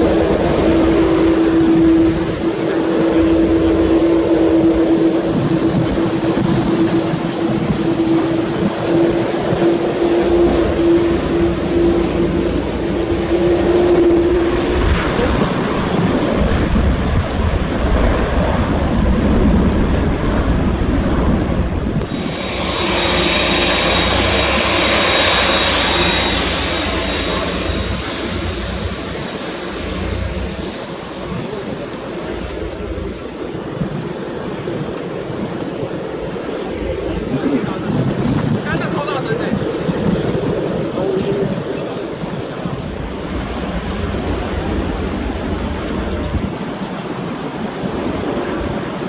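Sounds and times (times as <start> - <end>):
jet engines roaring at takeoff: 0.0 - 49.0
jet engines taxiing with high whine: 0.0 - 49.0.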